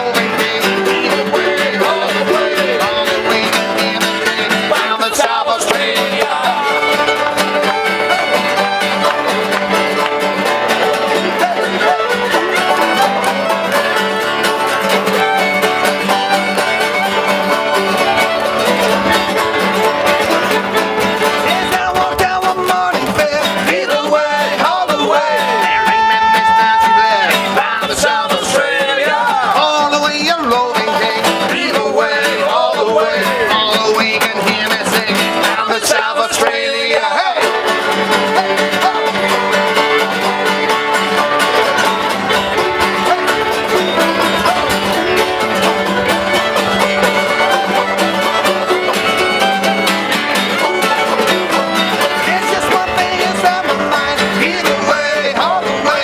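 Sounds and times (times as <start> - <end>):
bluegrass music: 0.0 - 56.0.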